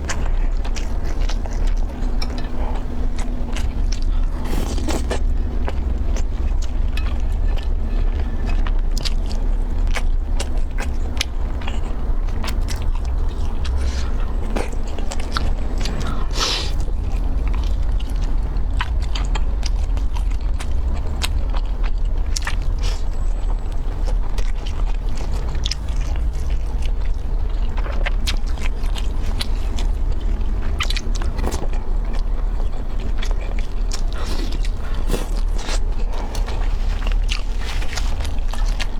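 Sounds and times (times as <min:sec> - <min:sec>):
crunching and chewing food: 0:00.0 - 0:38.9
steady low hum: 0:00.0 - 0:38.9.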